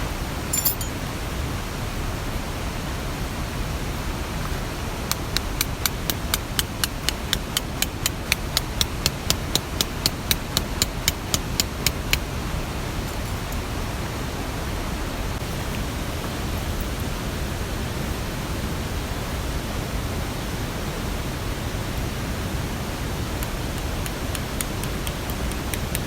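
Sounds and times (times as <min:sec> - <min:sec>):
rain: 0:00.0 - 0:26.0.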